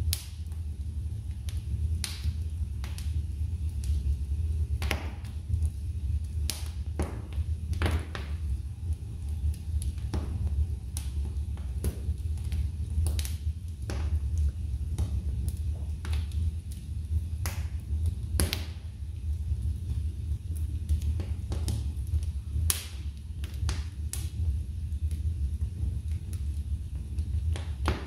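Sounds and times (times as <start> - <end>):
low rumble of fire: 0.0 - 28.0
wood fire crackling and popping: 0.0 - 28.0.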